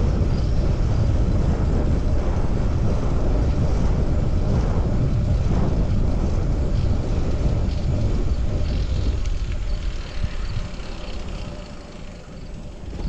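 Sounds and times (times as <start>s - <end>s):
road noise: 0.0s - 13.0s
wind rumble on microphone: 0.0s - 13.0s.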